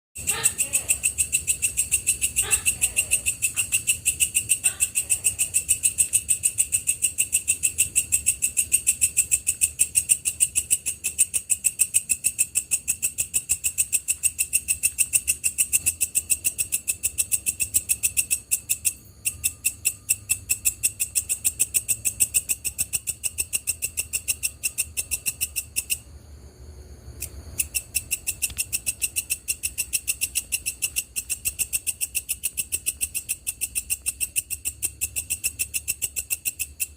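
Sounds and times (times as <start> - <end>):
grasshopper stridulating buzz: 0.2 - 36.9.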